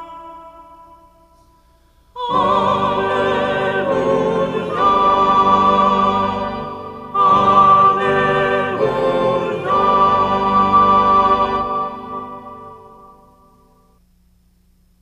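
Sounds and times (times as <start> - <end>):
choir singing sustained chords: 0.0 - 13.9.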